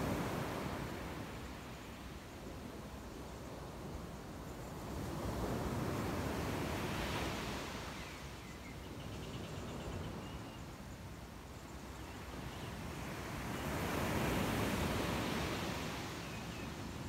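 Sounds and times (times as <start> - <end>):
ocean surf on a sandy beach: 0.0 - 17.0.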